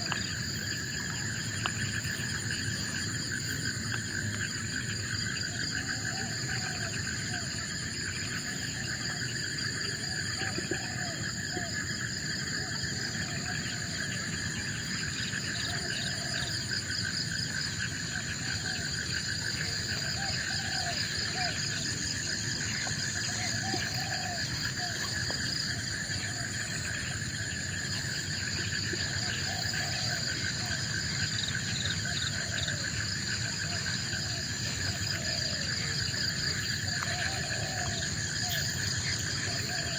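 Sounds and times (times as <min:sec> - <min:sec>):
insects trilling: 0:00.0 - 0:39.9
low arching animal calls: 0:00.0 - 0:39.9.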